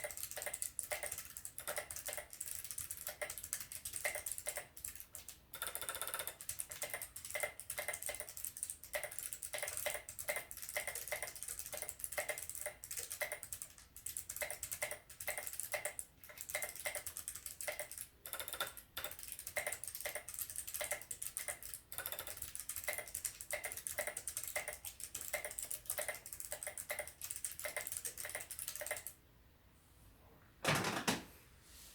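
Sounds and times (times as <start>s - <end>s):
clicky mechanical keyboard typing: 0.0s - 29.2s.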